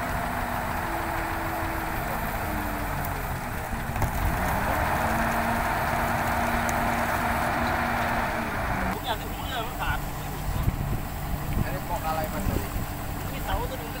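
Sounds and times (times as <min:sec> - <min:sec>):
crane engine and hydraulics running: 0:00.0 - 0:14.0.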